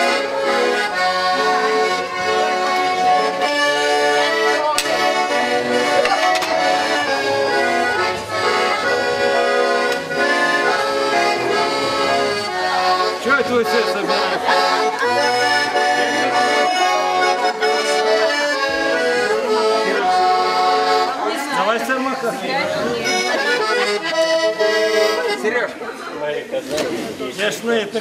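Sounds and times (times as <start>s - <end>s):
button accordion playing chords: 0.0s - 25.9s.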